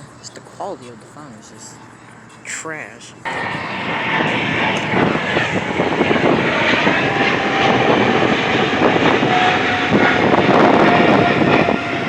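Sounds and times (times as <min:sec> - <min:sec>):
jet airliner taking off: 0:00.0 - 0:12.0.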